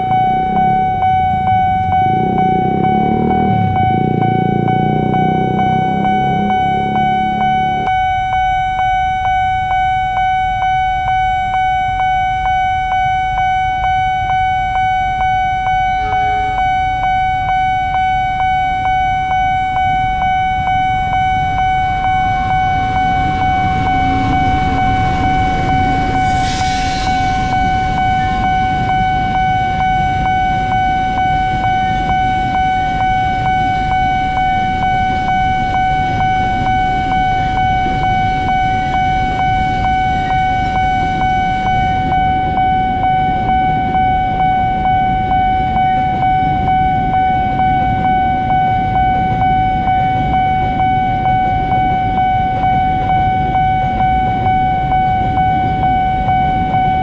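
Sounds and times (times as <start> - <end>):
diesel train passing rumble: 0.0 - 10.2, 18.2 - 57.0.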